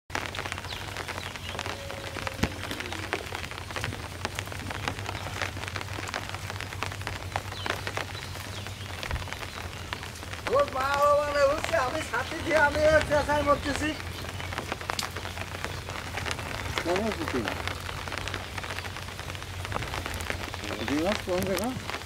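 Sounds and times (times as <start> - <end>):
close raindrop hits: 0.1 - 22.0
steady rain hiss: 0.1 - 22.0.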